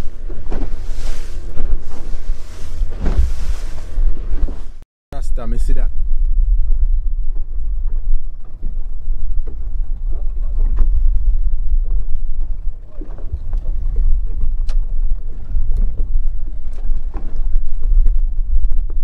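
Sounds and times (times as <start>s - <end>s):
boat engine low rumble: 0.0s - 19.0s.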